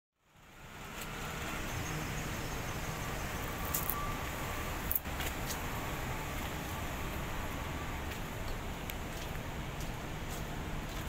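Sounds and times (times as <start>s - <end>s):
road traffic hum: 0.2s - 11.0s.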